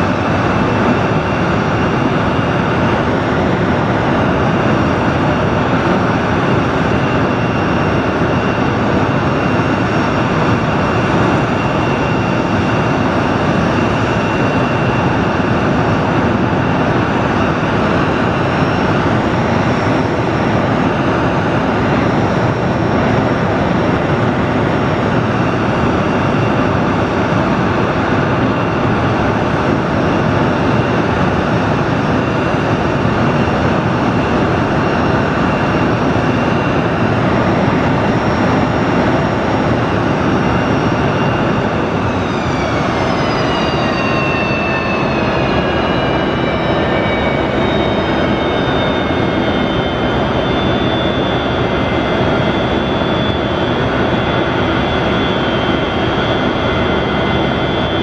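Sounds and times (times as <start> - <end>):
jet engines running at taxi power: 0.0 - 58.0.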